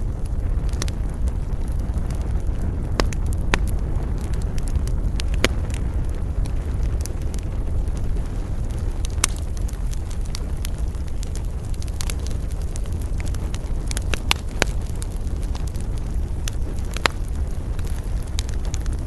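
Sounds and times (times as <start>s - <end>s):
campfire crackling: 0.0s - 19.0s
loud fire pops: 0.0s - 19.0s
low rumble: 0.0s - 19.0s.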